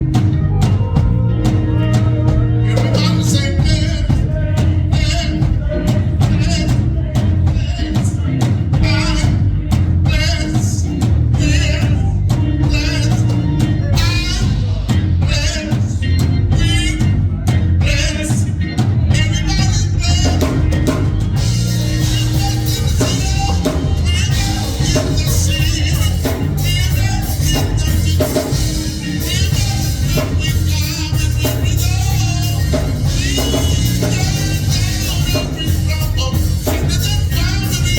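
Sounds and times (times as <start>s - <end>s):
church music with drums and singing: 0.0s - 37.9s.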